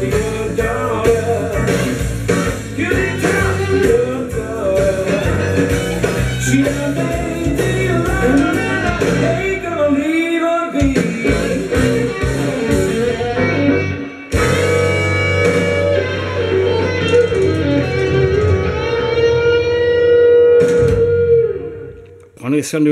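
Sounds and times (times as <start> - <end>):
rock and roll song with singer: 0.0 - 21.9
electric guitar track: 0.0 - 22.4.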